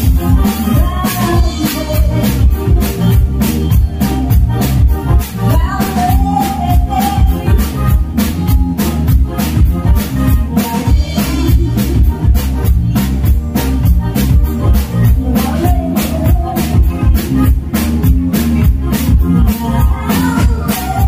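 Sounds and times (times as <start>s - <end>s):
steady drum beat: 0.0s - 21.0s.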